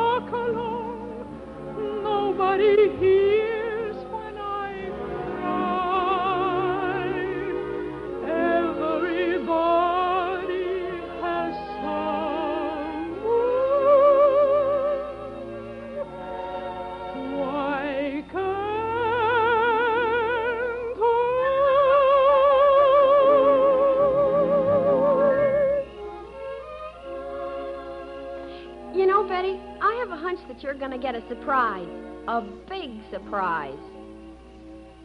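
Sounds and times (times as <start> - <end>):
operatic singing: 0.0 - 29.0
orchestral accompaniment: 0.0 - 35.0.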